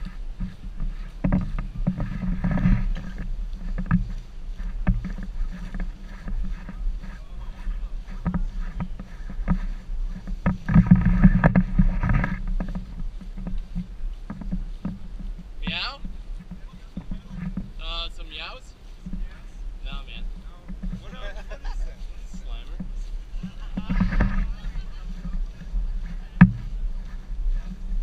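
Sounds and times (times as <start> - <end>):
camera handling rumble and knocks: 0.0 - 17.8, 20.1 - 28.0
steady low hum: 0.0 - 28.0.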